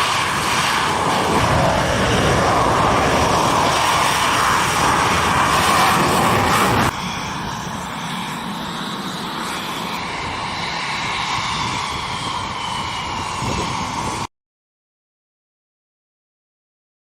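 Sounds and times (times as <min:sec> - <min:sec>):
jet engine rush with whine: 0:00.0 - 0:14.3.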